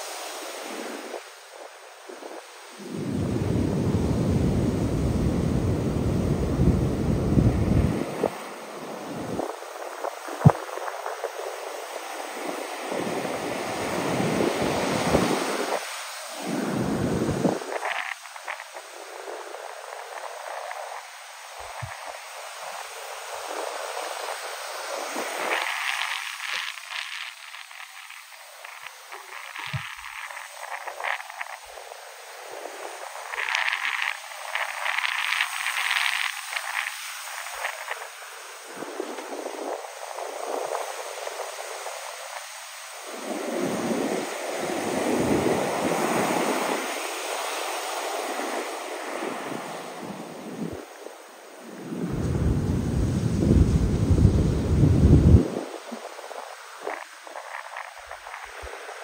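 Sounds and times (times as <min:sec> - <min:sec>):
surf waves breaking on beach: 0:00.0 - 0:59.0
wind on microphone: 0:00.0 - 0:59.0.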